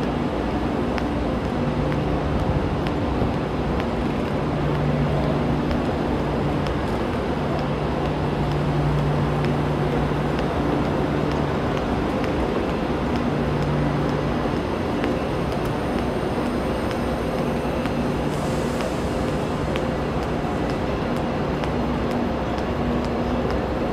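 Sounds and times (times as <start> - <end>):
footsteps on tiled platform: 0.0 - 23.9
train mechanical hum and rumble: 0.0 - 23.9.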